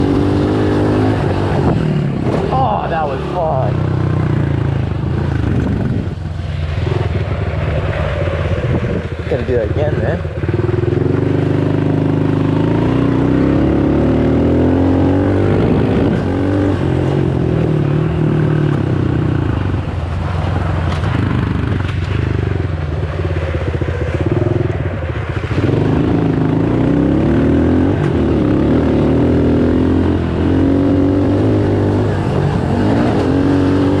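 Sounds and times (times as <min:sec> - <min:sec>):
dirt bike engine revving: 0:00.0 - 0:20.4, 0:23.5 - 0:34.0.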